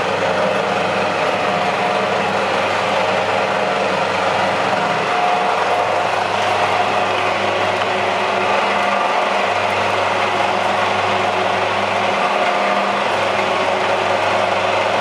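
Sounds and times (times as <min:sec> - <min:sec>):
machine whirring with hum: 0:00.0 - 0:15.0.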